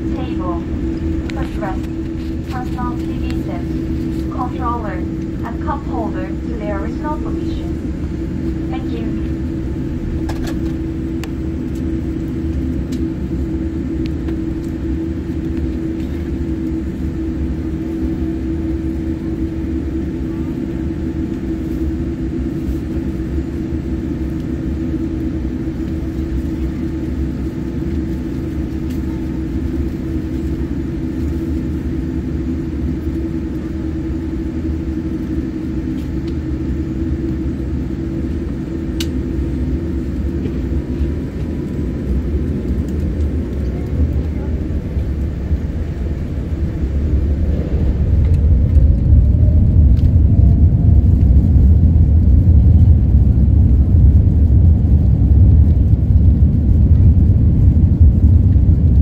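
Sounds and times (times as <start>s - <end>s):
jet engines rumbling: 0.0s - 59.0s
steady hum: 0.0s - 59.0s.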